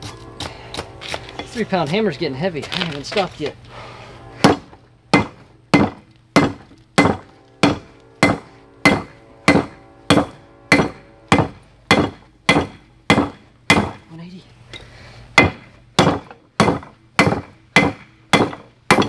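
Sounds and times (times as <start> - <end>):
hammer striking steel on anvil: 0.0 - 3.2, 4.3 - 14.2, 14.8 - 19.0.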